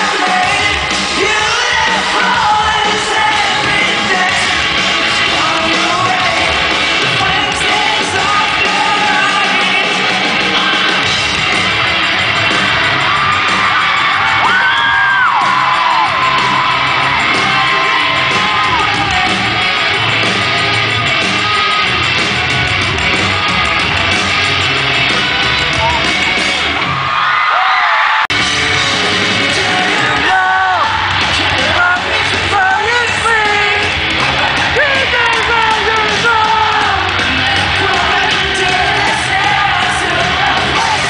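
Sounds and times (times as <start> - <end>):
live rock band with singing: 0.0 - 27.5, 28.1 - 41.0.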